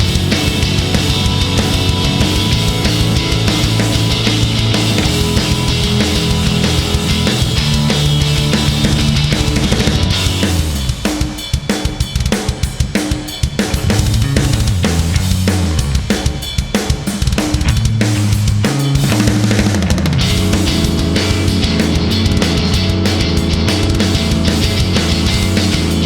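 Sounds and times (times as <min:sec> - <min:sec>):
sustained low bass notes: 0:00.0 - 0:10.9, 0:13.9 - 0:16.1, 0:17.7 - 0:26.0
bass drum snare and cymbal hits: 0:00.0 - 0:26.0
loud rock music: 0:00.0 - 0:26.0.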